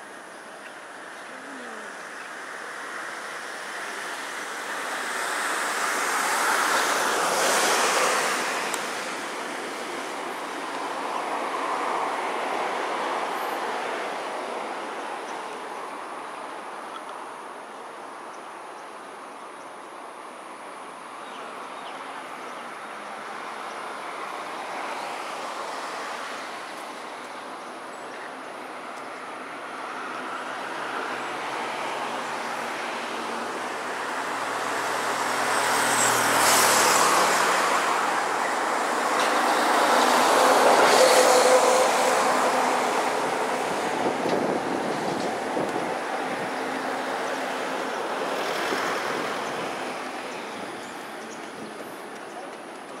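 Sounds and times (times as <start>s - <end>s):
vehicles passing by: 0.0s - 53.0s.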